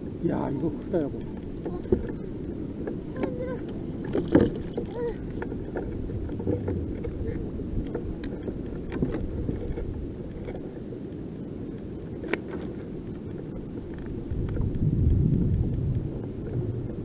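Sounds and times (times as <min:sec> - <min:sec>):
wind buffeting microphone: 0:00.0 - 0:17.0
small clicks and knocks: 0:01.3 - 0:10.7, 0:12.2 - 0:16.6.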